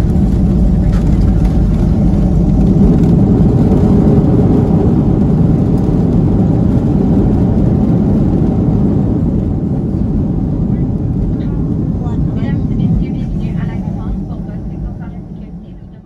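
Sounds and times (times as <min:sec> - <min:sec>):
jet engines in reverse thrust: 0:00.0 - 0:16.0.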